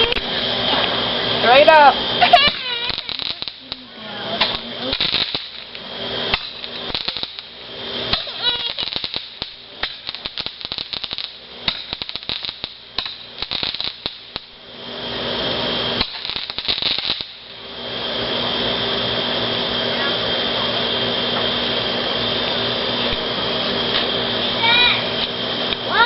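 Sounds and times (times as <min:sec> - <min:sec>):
fireworks crackling: 0:00.0 - 0:26.0
steady hiss: 0:00.0 - 0:26.0.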